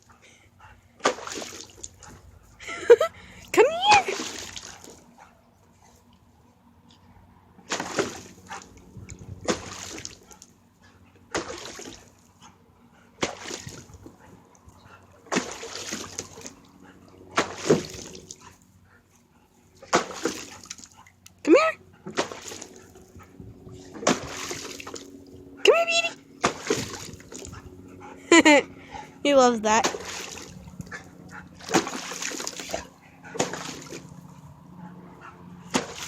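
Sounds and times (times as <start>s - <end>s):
dog splashing water: 0.0s - 2.4s, 3.2s - 5.4s, 7.6s - 10.6s, 11.2s - 36.0s.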